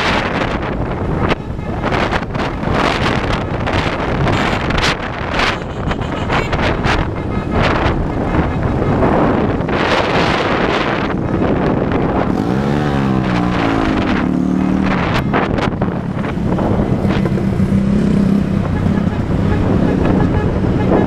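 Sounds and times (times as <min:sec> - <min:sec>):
road and engine noise: 0:00.0 - 0:21.0
wind buffeting microphone: 0:00.0 - 0:21.0
motorcycle engine revving: 0:02.1 - 0:21.0.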